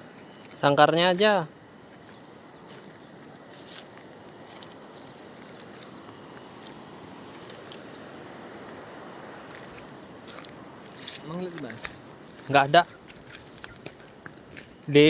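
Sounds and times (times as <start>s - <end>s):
crackling rustles: 0.0s - 8.8s, 9.4s - 14.9s
stream flowing: 0.0s - 13.4s.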